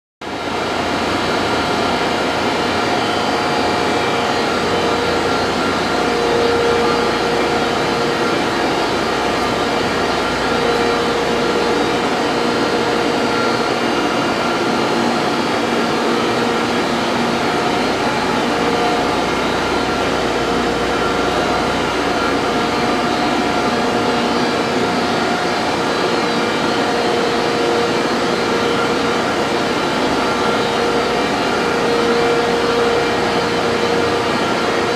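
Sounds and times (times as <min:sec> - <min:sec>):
machinery drone with whining tones: 0:00.2 - 0:34.9.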